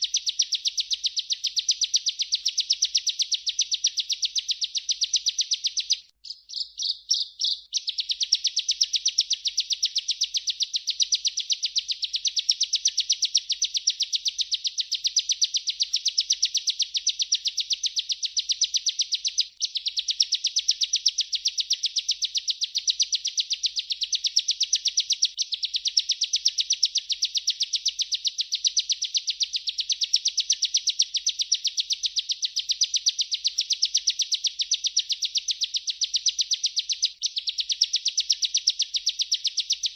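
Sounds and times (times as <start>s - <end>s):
bird trilling song: 0.0s - 39.9s.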